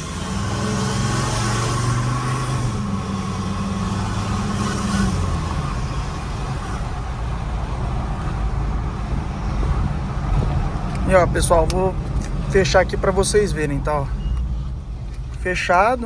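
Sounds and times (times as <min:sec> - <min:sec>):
diesel engine exhaust drone: 0:00.0 - 0:16.0.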